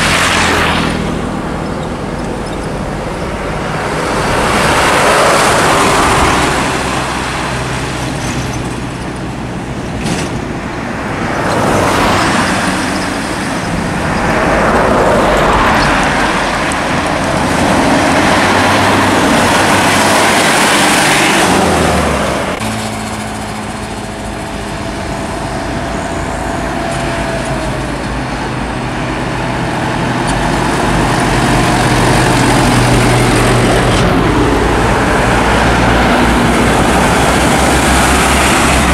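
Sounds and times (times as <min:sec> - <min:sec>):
diesel trucks driving past: 0:00.0 - 0:38.9.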